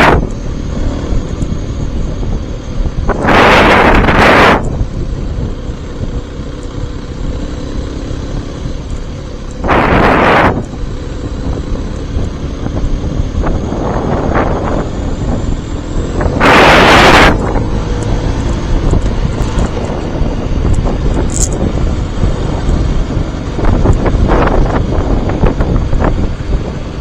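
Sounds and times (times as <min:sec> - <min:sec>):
faint motorcycle engine: 0:00.0 - 0:27.0
wind noise on helmet: 0:00.0 - 0:27.0.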